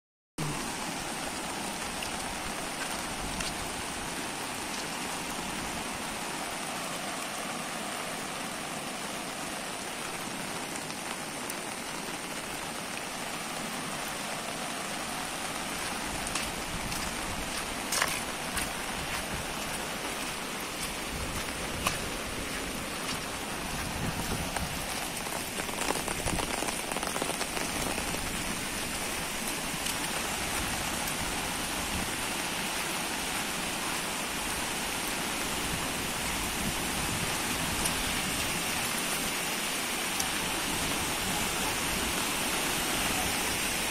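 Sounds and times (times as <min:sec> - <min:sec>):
steady rain falling: 0:00.4 - 0:43.9.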